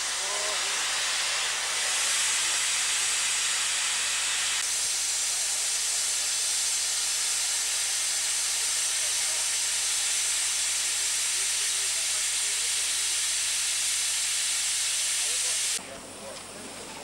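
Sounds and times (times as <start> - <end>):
loud hiss of steam: 0.0 - 16.0.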